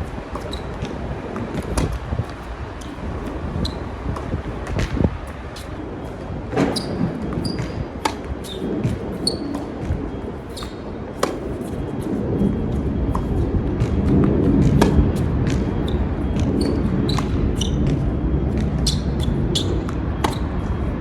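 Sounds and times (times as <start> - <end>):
wind rumble on microphone: 0.0 - 21.0
tennis balls struck and bouncing: 0.1 - 20.7.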